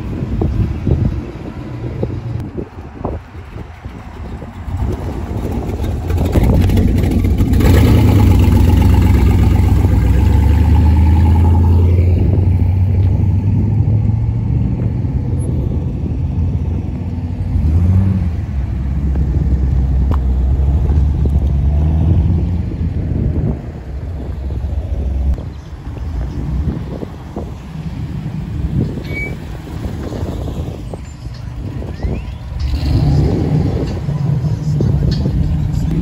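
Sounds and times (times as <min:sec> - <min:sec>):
sports car engines rumbling past: 0:00.0 - 0:36.0.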